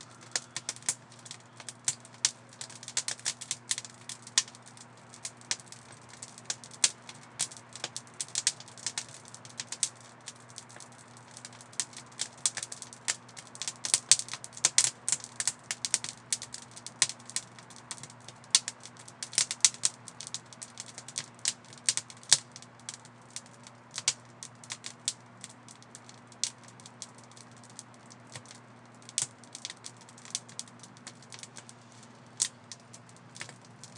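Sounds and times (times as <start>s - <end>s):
fire crackling: 0.0s - 33.9s.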